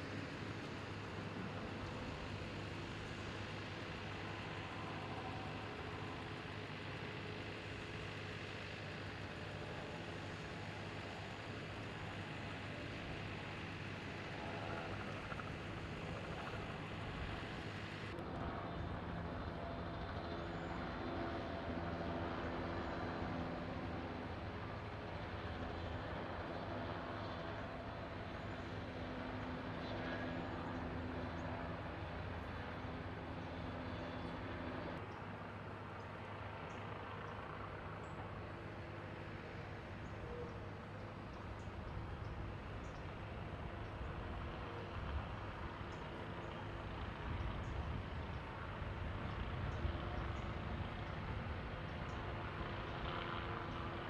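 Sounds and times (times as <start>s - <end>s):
heavy vehicle engines humming: 0.0s - 54.0s.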